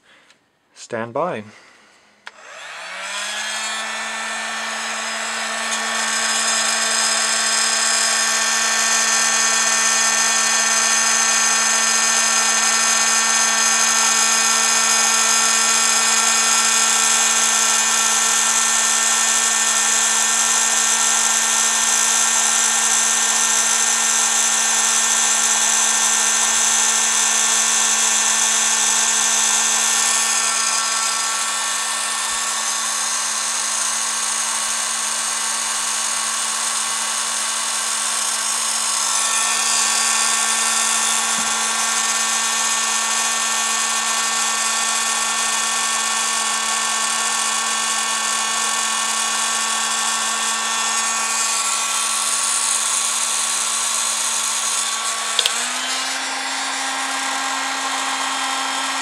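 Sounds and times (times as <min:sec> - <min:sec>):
heat gun blowing air: 0:01.6 - 0:59.0
heat gun motor hum: 0:02.2 - 0:59.0.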